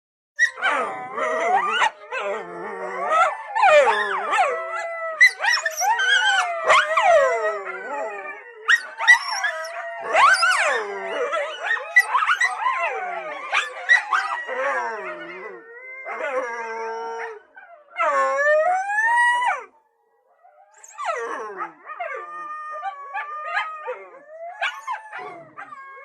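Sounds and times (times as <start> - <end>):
coyotes howling and yipping: 0.4 - 19.8, 20.6 - 26.0.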